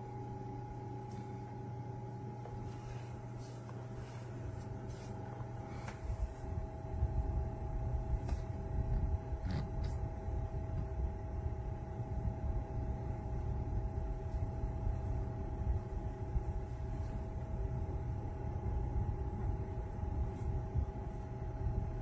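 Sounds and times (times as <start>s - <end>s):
air cooler motor hum: 0.0s - 22.0s.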